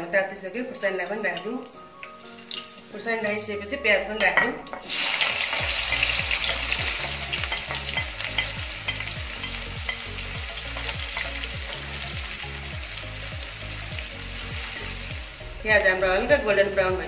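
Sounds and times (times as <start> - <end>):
onions sizzling in hot oil: 0.3 - 17.0.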